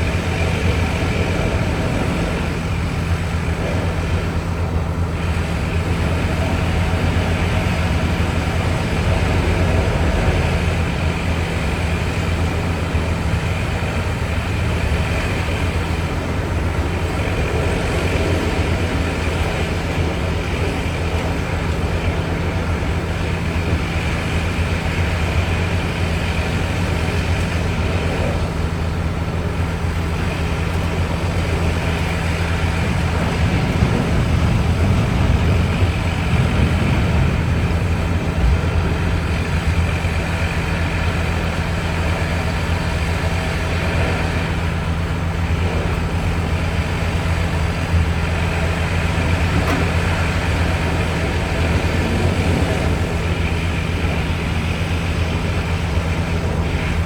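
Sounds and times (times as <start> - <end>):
diesel truck engine droning: 0.0 - 57.0.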